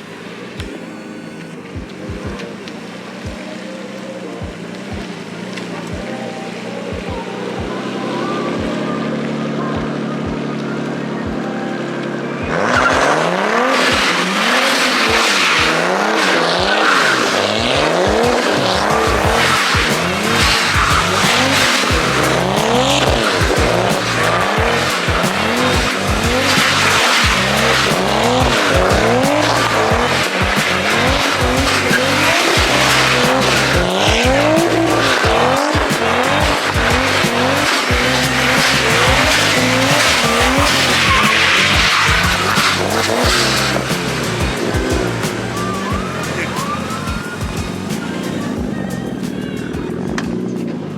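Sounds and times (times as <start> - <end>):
tyres squealing: 0.0 - 50.6
car engine revving: 0.0 - 50.9
music with steady beat: 0.0 - 50.9.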